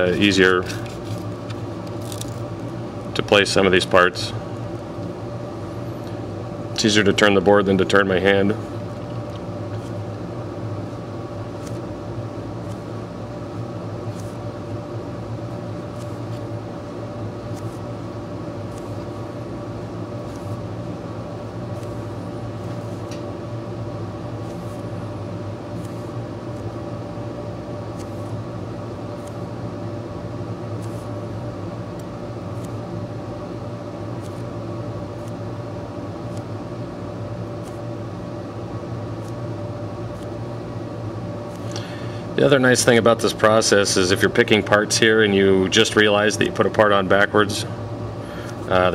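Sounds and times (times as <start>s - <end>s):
low machine hum: 0.0s - 48.9s.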